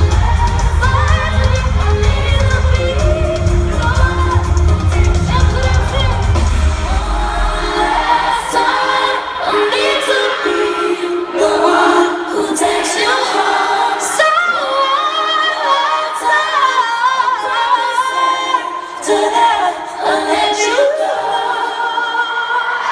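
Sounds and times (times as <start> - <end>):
pop backing music: 0.0 - 22.9
woman singing: 0.0 - 22.9.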